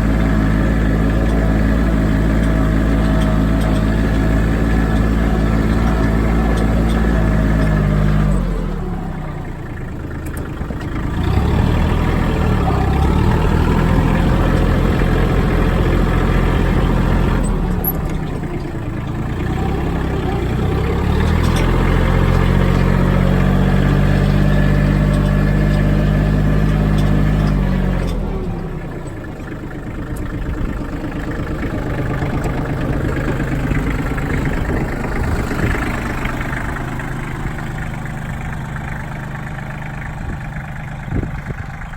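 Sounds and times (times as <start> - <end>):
tractor diesel engine revving: 0.0 - 41.9.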